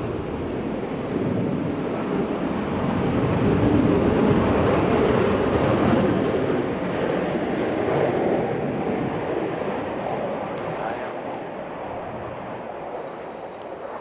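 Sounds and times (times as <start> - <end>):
aircraft engine rushing: 0.0 - 14.0.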